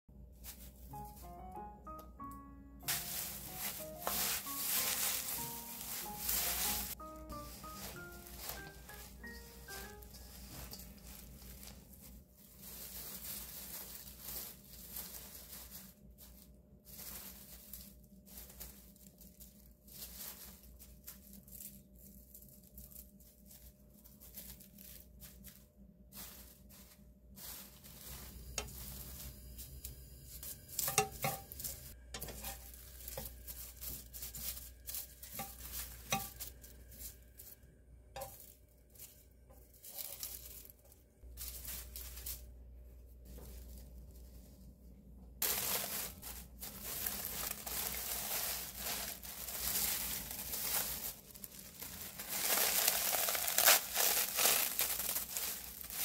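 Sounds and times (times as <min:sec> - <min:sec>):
dry seaweed sheets crinkling: 0:00.2 - 0:56.0.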